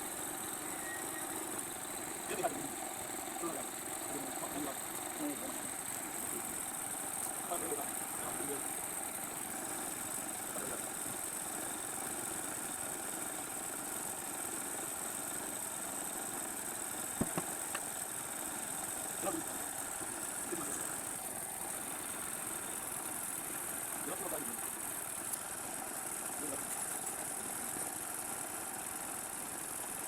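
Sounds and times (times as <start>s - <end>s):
high hiss: 0.0s - 30.0s
machine running steadily: 0.0s - 30.0s.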